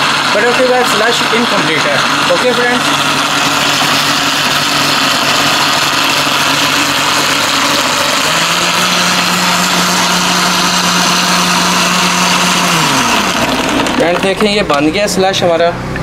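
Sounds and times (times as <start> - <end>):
blender crushing ice: 0.0 - 14.9.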